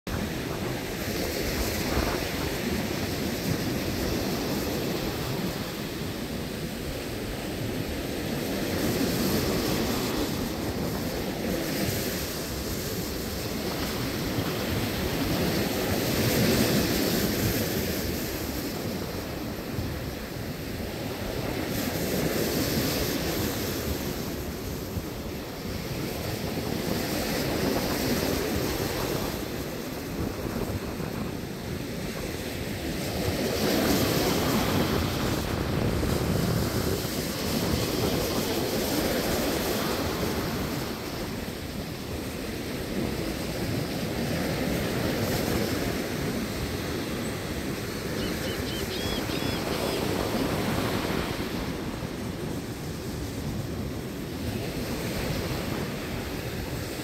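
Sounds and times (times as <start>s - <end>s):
ocean surf on beach: 0.1s - 57.0s.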